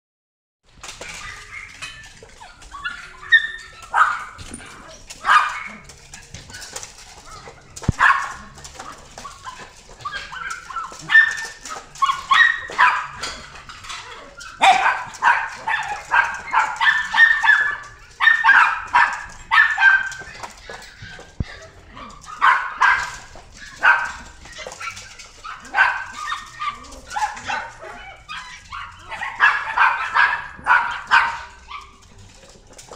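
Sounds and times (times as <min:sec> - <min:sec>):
puppy barking and yipping: 0:00.8 - 0:32.9.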